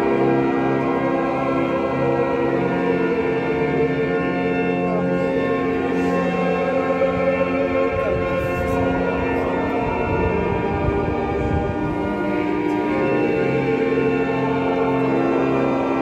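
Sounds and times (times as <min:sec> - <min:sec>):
choir singing sacred music: 0:00.0 - 0:16.0.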